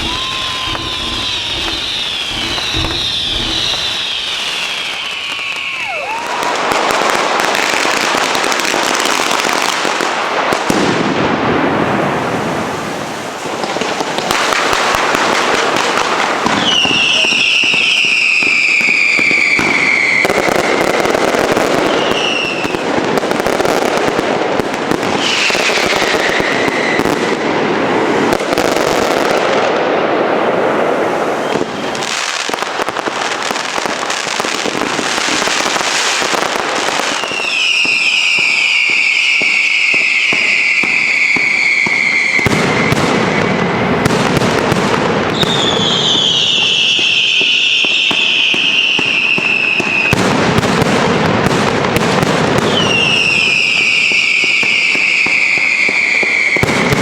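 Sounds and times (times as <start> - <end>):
fireworks crackling bangs: 0.0 - 57.0
whistling fireworks shrieking: 0.0 - 57.0.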